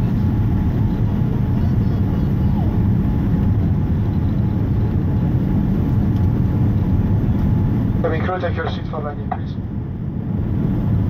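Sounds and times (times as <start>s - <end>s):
aircraft cabin engine roar: 0.0s - 11.0s.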